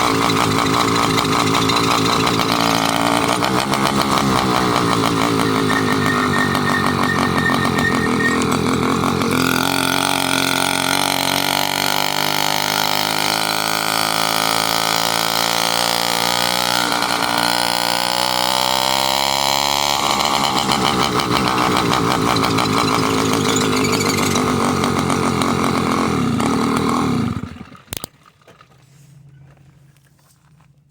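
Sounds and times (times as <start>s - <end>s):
small engine running: 0.0s - 28.7s.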